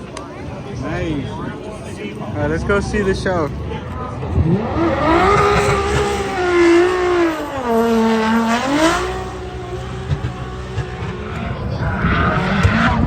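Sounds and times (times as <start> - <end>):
car engine revving hard: 2.4 - 13.0.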